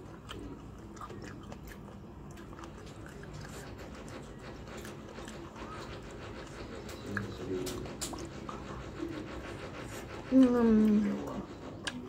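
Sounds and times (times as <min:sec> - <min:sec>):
person chewing food: 0:00.0 - 0:09.2, 0:09.9 - 0:12.0.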